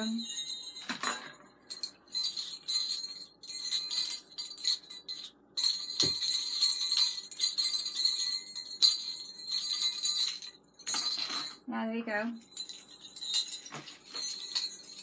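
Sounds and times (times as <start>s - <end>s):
small jingle bells jingling: 0.0s - 15.0s.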